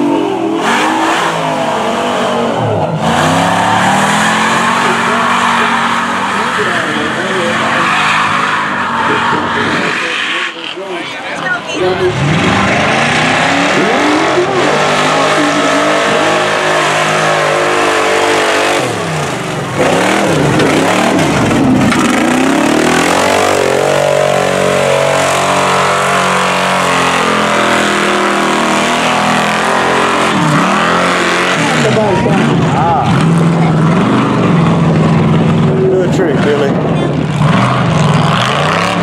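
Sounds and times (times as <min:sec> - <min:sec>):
truck engines revving high: 0:00.0 - 0:39.0.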